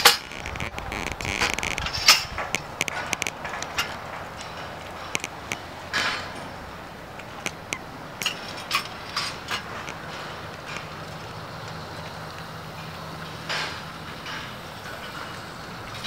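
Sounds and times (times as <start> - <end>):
metal clanks and knocks: 0.0 - 16.0.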